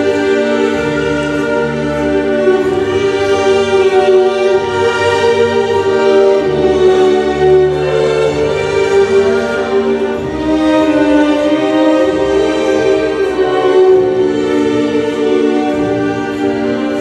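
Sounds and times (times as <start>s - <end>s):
orchestral waltz with strings: 0.0s - 17.0s.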